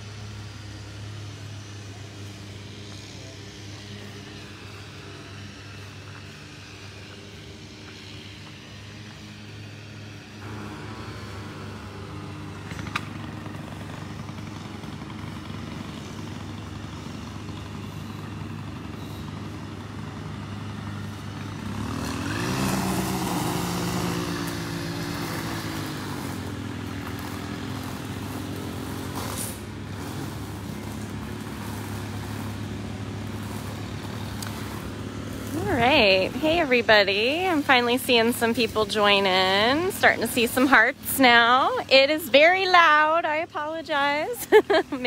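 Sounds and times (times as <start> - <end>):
lawn mower engine running: 0.0 - 45.0
string trimmer engine running: 0.0 - 45.0.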